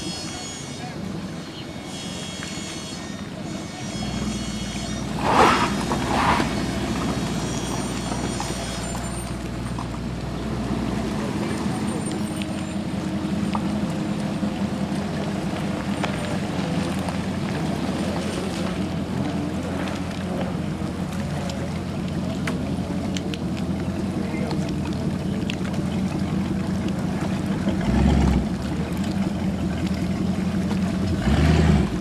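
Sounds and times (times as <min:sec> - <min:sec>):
boat engine humming: 0:00.0 - 0:32.0
low buffet: 0:03.2 - 0:32.0.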